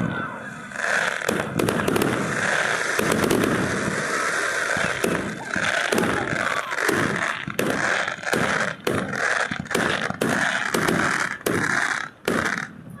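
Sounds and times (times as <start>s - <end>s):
fireworks banging: 0.0s - 13.0s
crackling hiss: 0.4s - 13.0s.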